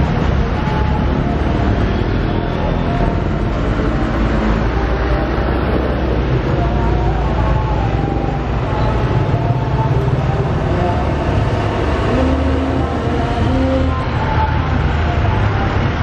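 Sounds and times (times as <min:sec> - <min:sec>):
diesel truck engines passing: 0:00.0 - 0:16.0.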